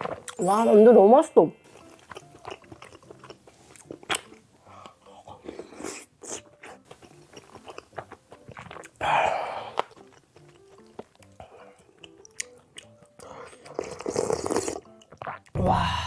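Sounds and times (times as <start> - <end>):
person chewing with wet smacks: 1.8 - 9.0, 9.7 - 15.6.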